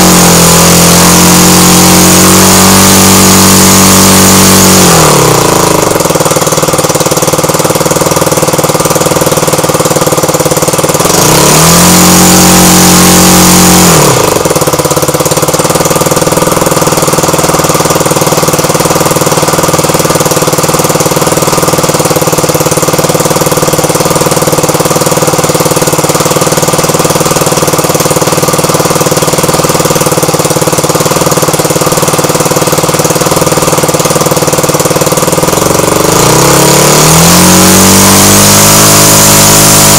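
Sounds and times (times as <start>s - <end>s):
model aircraft engine running: 0.0s - 39.9s.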